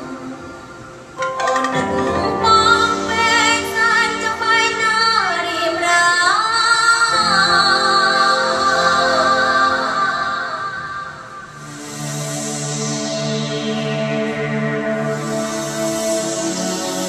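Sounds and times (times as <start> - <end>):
sustained music tones: 0.0 - 5.9, 7.1 - 17.0.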